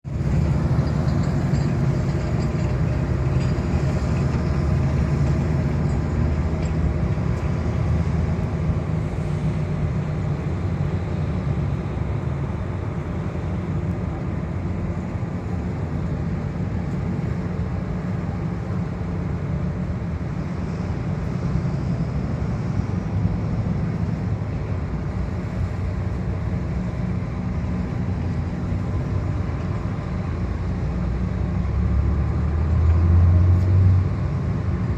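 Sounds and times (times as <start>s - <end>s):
ship engines rumbling: 0.1s - 34.9s.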